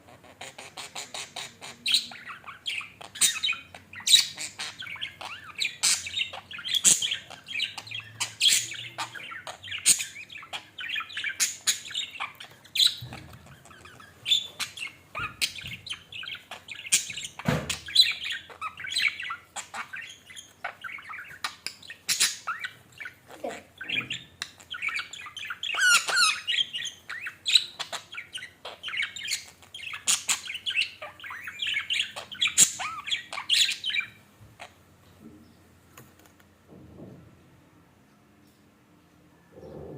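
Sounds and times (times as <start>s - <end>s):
birds chirping: 0.0s - 37.1s, 37.8s - 39.9s
bird warbling chatter: 0.1s - 34.8s.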